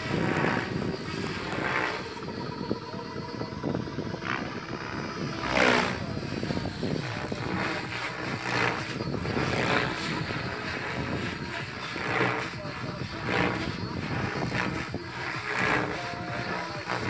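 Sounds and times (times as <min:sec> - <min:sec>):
model helicopter whirring: 0:00.0 - 0:17.0
rotor blades swishing: 0:00.0 - 0:17.0.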